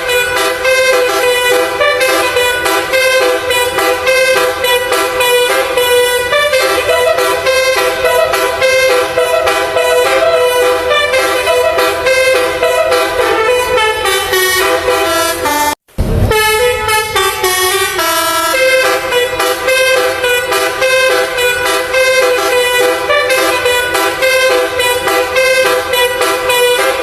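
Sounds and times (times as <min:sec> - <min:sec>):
multi-tone bus air horn melody: 0:00.0 - 0:27.0.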